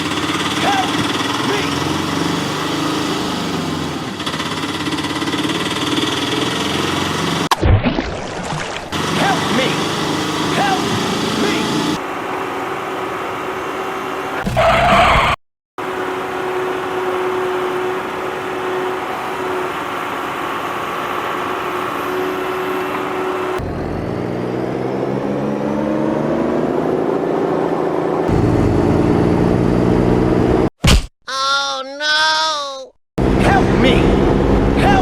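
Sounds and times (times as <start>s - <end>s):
vehicle engine running and revving: 0.0s - 7.5s, 8.9s - 30.7s, 33.2s - 35.0s.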